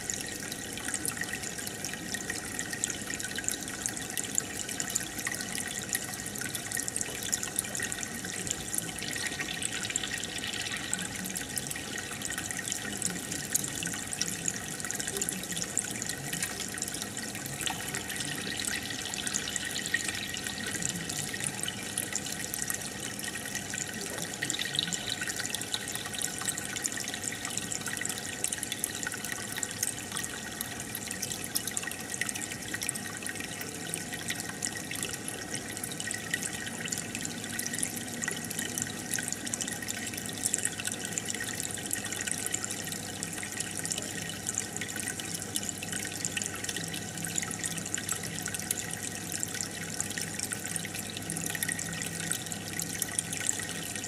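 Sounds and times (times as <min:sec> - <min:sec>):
aquarium filter bubbling: 0:00.0 - 0:54.0.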